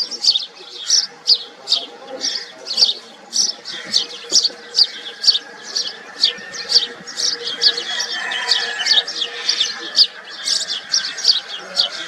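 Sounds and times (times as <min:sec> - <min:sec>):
sparrow chirping: 0:00.0 - 0:12.0.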